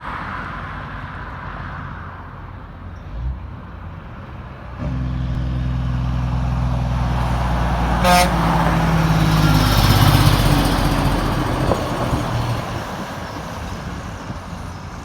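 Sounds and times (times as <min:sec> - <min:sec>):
road traffic: 0:00.0 - 0:15.0
truck engine drone: 0:02.3 - 0:15.0.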